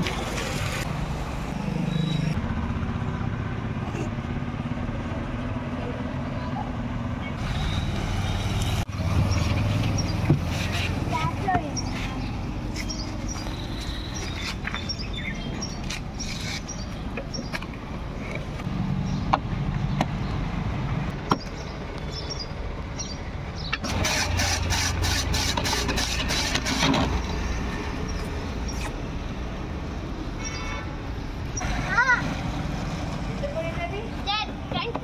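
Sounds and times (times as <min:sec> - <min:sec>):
street traffic rumble: 0:00.0 - 0:35.0.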